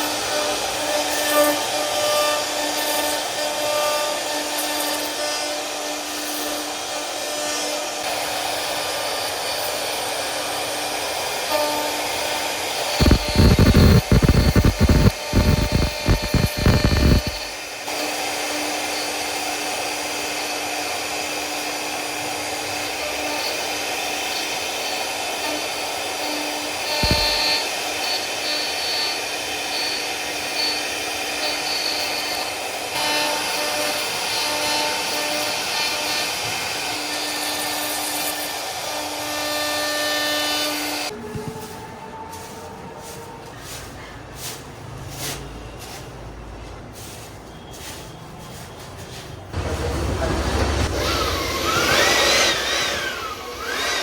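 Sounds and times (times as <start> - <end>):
router spindle cutting wood: 0.0 - 41.1, 49.6 - 54.0.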